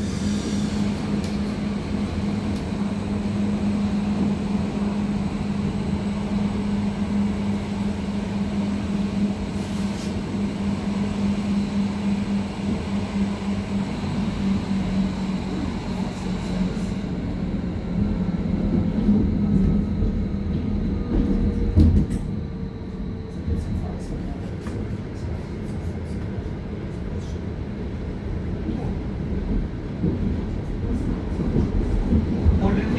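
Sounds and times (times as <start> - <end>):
train drone from inside: 0.0 - 32.9.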